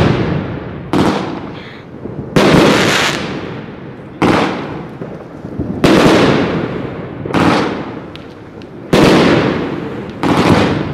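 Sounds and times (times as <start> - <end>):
firework bangs: 0.0 - 10.9.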